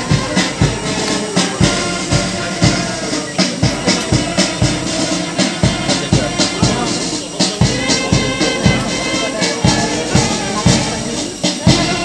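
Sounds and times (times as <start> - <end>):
bass drum beat: 0.0 - 12.0
brass band playing march: 0.0 - 12.0.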